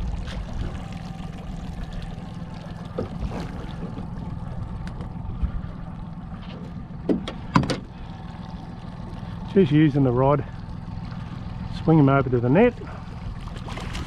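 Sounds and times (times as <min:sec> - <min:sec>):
outboard motor humming: 0:00.0 - 0:14.0.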